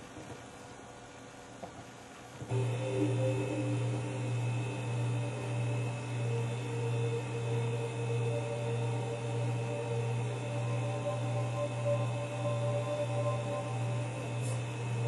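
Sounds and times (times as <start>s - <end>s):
low droning music: 2.5s - 15.0s.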